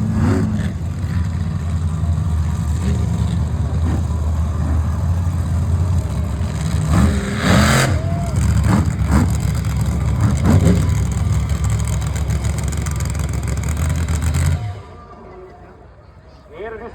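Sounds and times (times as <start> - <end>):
monster truck engines rumbling: 0.0 - 16.9.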